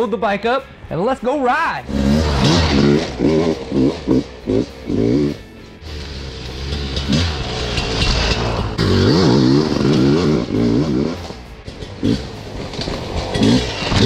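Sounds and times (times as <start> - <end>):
dirt bike engine revving: 1.8 - 14.0.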